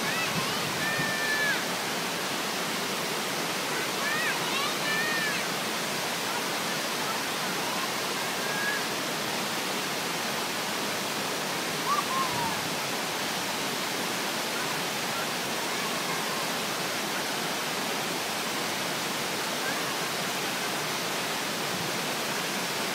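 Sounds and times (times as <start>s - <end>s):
waterfall rushing and splashing: 0.0s - 22.9s.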